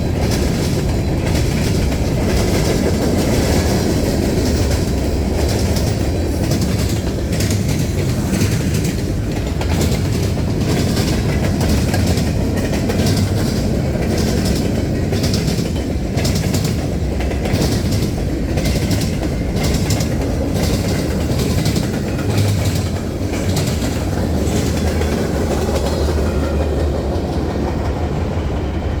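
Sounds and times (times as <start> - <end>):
freight train rumbling past: 0.0 - 29.0
wheels clacking over rail joints: 0.0 - 29.0.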